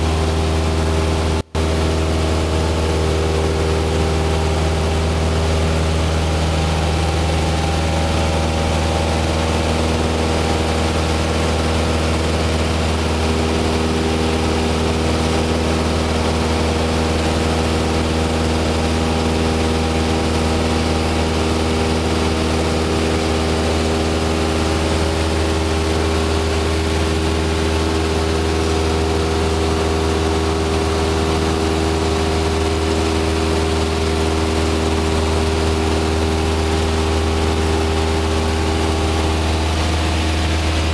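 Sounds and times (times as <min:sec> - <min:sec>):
light aircraft engine drone in cabin: 0:00.0 - 0:40.9.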